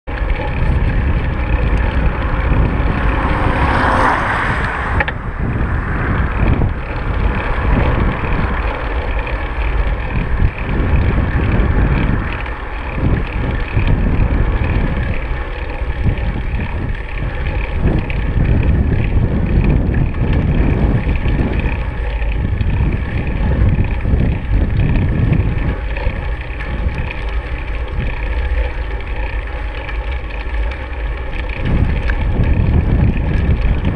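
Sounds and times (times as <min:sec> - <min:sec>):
bicycle road noise: 0:00.0 - 0:33.9
wind buffeting microphone: 0:00.1 - 0:33.9.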